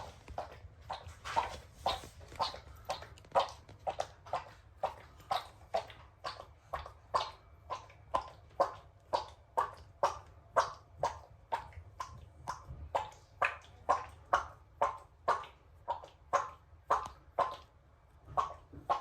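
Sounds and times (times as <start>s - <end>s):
cat stomach sounds: 0.0s - 19.0s.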